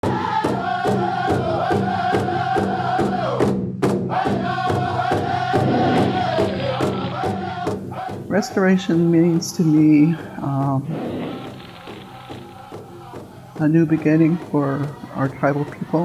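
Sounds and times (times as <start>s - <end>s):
steady drum beat: 0.0s - 16.0s
voices singing chant-like melody: 0.0s - 16.0s.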